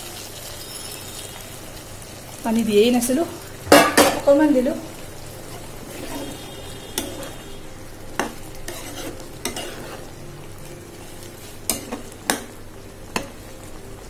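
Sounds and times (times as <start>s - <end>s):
curry sizzling: 0.0s - 14.0s.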